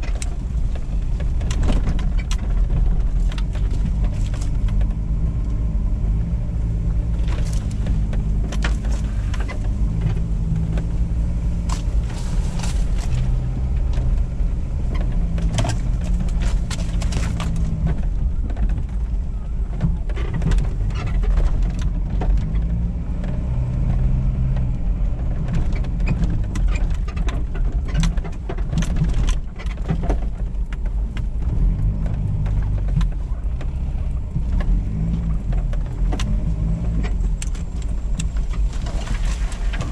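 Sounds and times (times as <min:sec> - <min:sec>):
diesel engine inside cabin: 0:00.0 - 0:39.9
knocks and rattles over bumps: 0:00.0 - 0:39.9.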